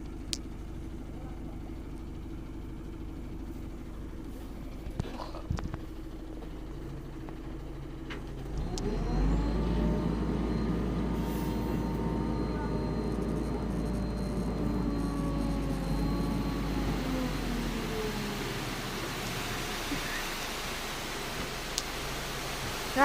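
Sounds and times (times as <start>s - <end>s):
diesel engine revving: 0.9s - 23.0s.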